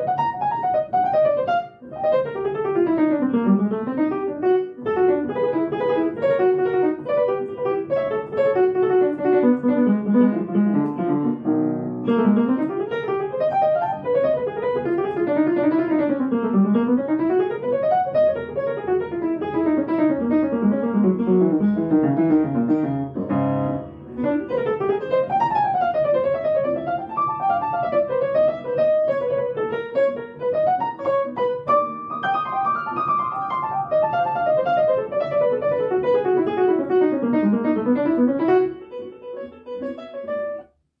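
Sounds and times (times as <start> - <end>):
piano playing fast jazz: 0.0 - 40.8.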